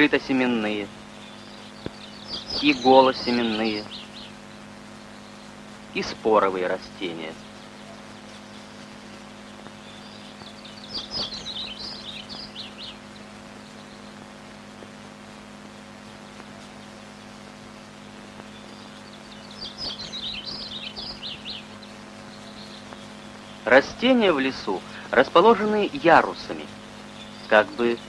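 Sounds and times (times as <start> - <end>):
songbird chirping: 0.0 - 28.0
steady low hum: 0.0 - 28.0.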